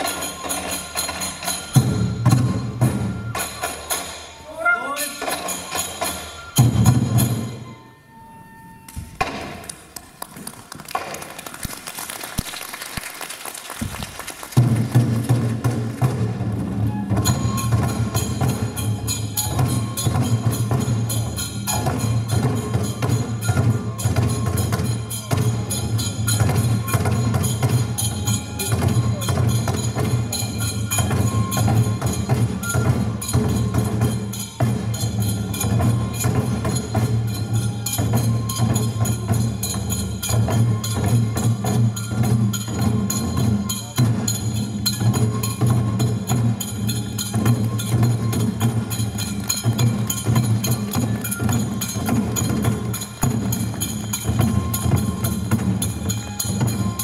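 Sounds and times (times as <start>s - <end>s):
sharp clacking percussion: 0.0s - 7.8s, 8.8s - 57.0s
taiko drums beating: 0.0s - 7.8s, 9.0s - 11.5s, 13.8s - 57.0s.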